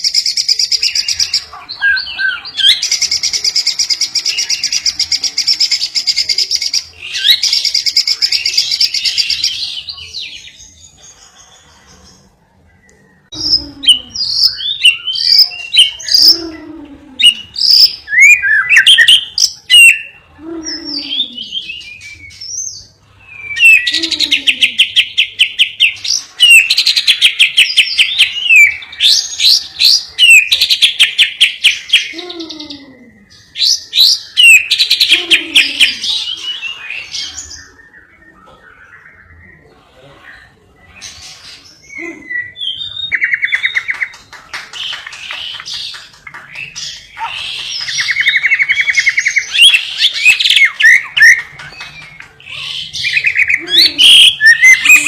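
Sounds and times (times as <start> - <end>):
songbird singing trills and whistles: 0.0 - 55.0.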